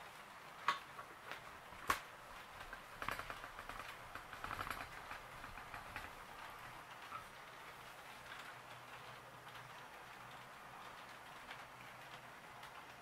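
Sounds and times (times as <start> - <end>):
model train wheels clicking: 0.4 - 13.0.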